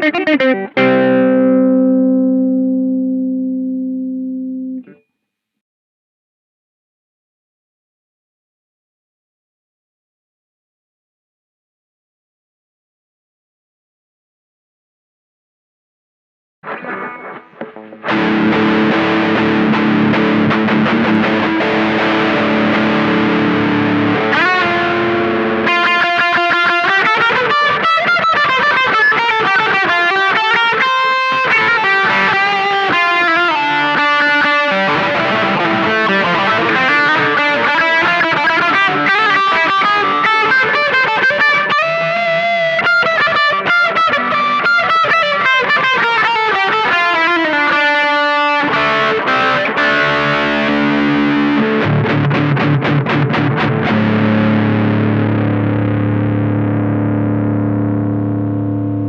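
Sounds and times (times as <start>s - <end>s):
distorted electric guitar: 0.0s - 5.0s, 16.6s - 59.0s.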